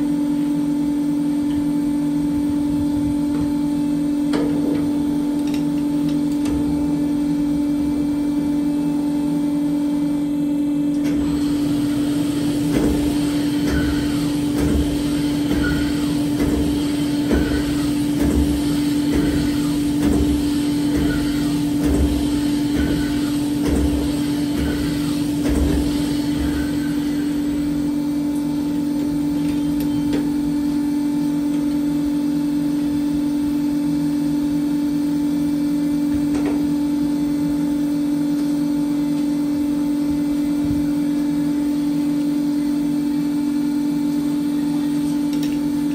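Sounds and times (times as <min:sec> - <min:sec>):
boring machine motor hum: 0:00.0 - 0:45.9.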